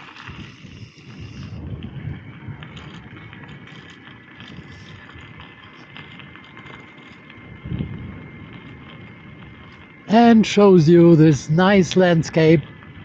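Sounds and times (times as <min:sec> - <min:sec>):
bicycle rolling and drivetrain noise: 0:00.0 - 0:13.0
wind buffeting microphone: 0:00.0 - 0:13.0.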